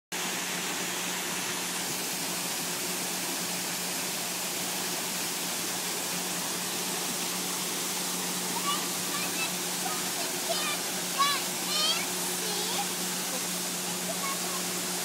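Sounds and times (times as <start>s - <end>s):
waterfall rushing: 0.2s - 15.0s.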